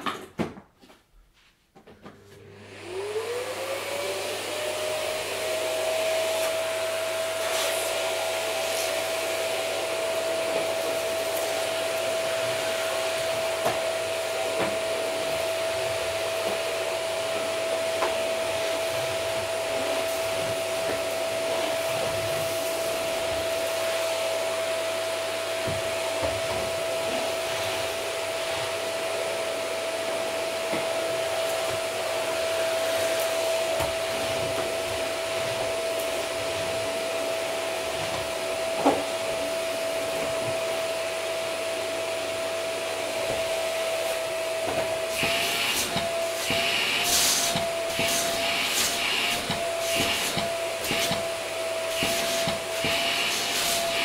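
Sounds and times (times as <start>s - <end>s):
vacuum cleaner running: 2.0s - 54.0s.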